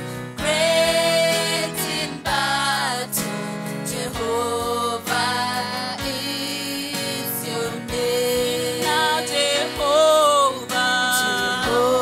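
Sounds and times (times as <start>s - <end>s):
electronic keyboard chords: 0.0s - 12.0s
women singing gospel song: 0.2s - 12.0s.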